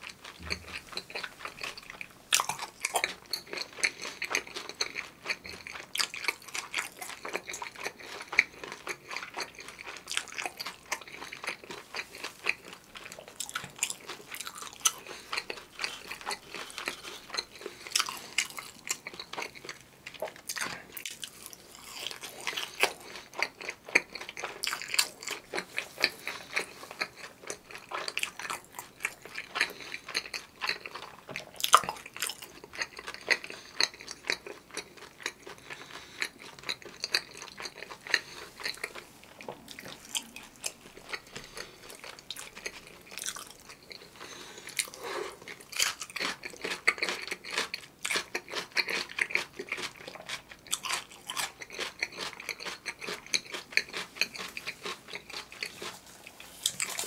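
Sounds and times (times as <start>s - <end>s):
crunchy chewing of fried food: 0.0s - 57.0s.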